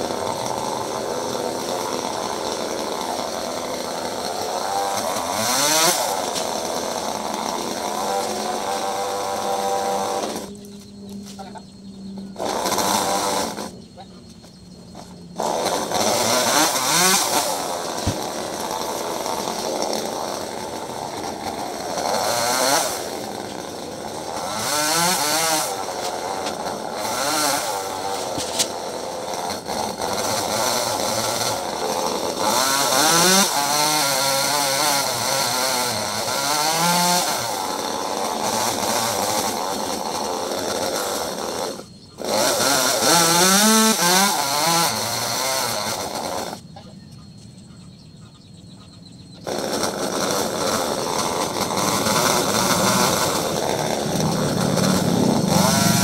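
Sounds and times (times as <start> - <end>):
chainsaw revving while cutting wood: 0.0 - 11.6, 12.2 - 13.8, 14.9 - 46.7, 49.4 - 56.0.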